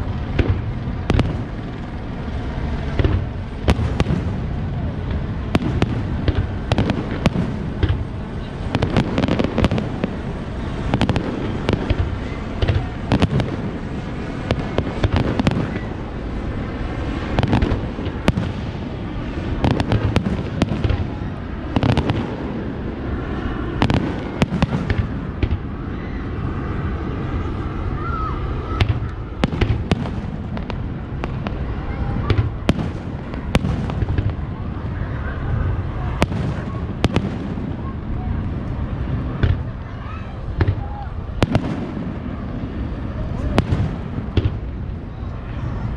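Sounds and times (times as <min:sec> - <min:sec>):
fireworks exploding: 0:00.0 - 0:27.7, 0:28.5 - 0:45.4.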